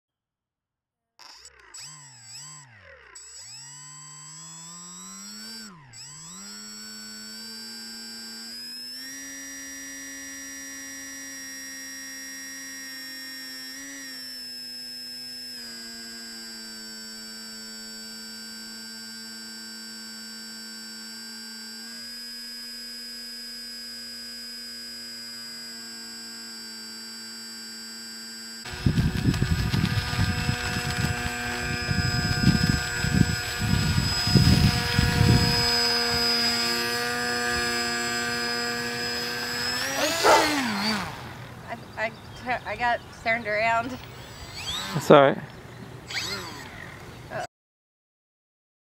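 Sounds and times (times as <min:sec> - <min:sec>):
electric motor and propeller whine: 0:01.2 - 0:47.5.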